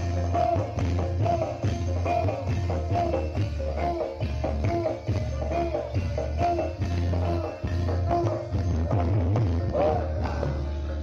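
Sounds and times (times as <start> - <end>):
percussion ensemble playing: 0.0 - 11.0.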